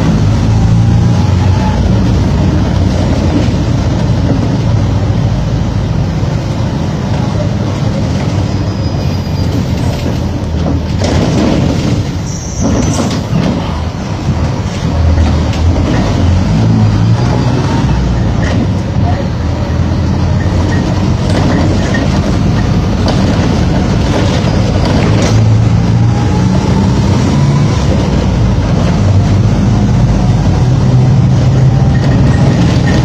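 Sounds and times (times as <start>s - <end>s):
bus diesel engine running: 0.0s - 33.0s.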